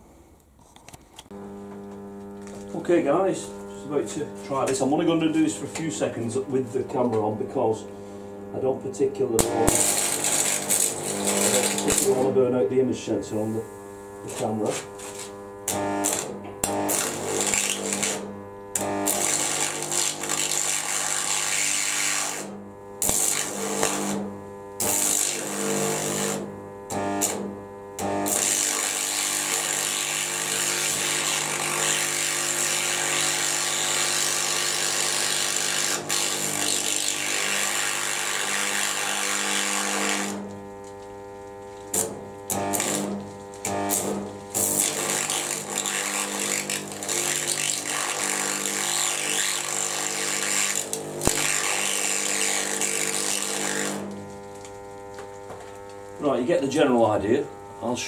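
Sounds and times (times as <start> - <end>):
welder low hum: 0.0 - 58.0
carbon arc hissing: 1.2 - 58.0.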